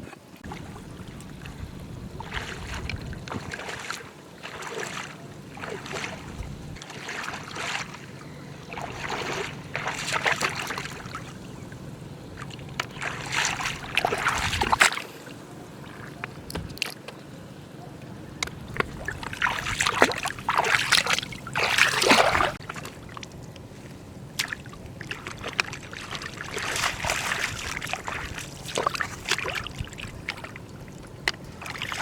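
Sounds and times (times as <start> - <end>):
steady low hum: 0.0 - 32.0
water splashing and sloshing: 0.0 - 32.0.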